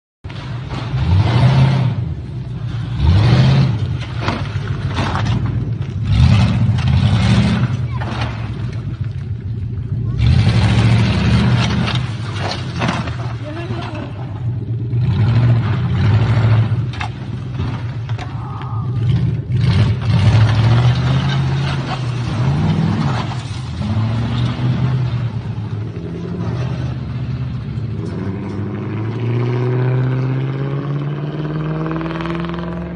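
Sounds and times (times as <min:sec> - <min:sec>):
car engine revving: 0:00.3 - 0:32.9.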